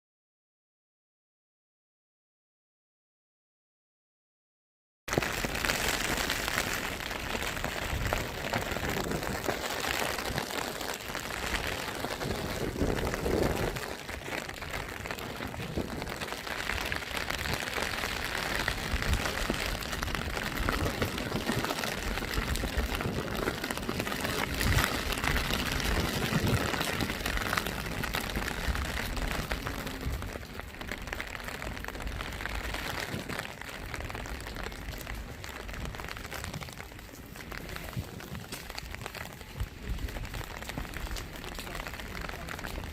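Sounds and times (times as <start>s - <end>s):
steady rain: 5.1s - 42.9s.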